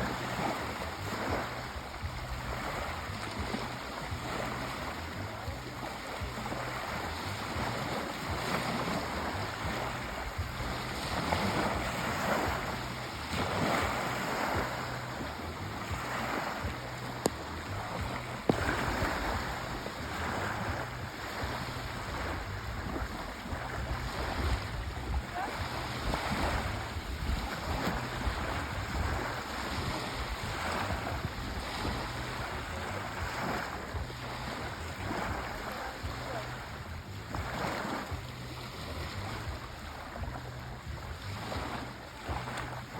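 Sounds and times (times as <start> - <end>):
sea waves washing in: 0.0 - 42.9.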